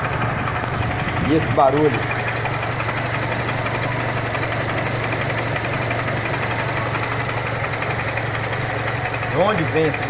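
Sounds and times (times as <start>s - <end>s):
car engine idling: 0.0s - 10.0s
fast regular ticking: 0.5s - 10.0s.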